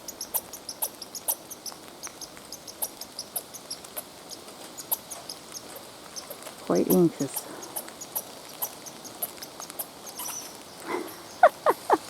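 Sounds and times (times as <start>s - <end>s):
small animal squeaking: 0.0s - 12.0s.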